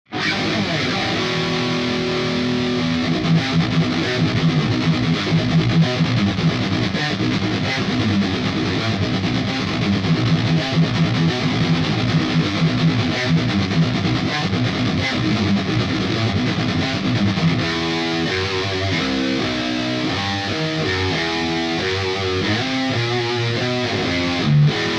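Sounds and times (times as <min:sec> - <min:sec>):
distorted electric guitar riff: 0:00.1 - 0:24.9.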